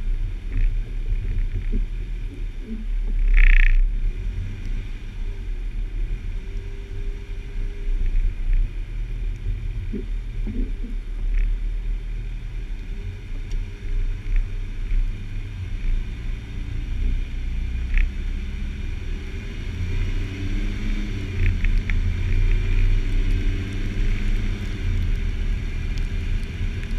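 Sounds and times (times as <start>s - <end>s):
engine and tyres rumbling: 0.0s - 26.9s.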